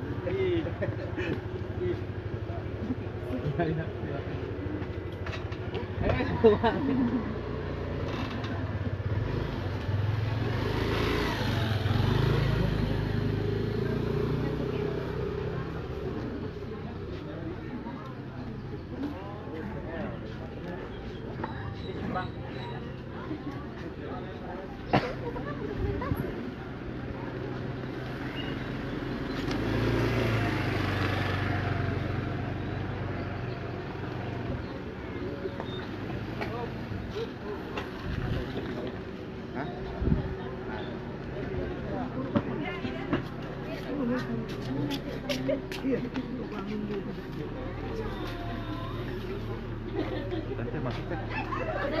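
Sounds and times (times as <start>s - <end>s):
scooter engine passing by: 0.0s - 19.6s, 20.2s - 52.0s.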